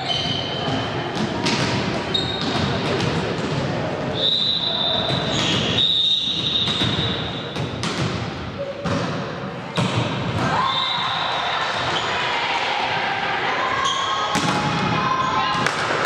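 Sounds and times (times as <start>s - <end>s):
echoing voices and chatter: 0.0s - 16.0s.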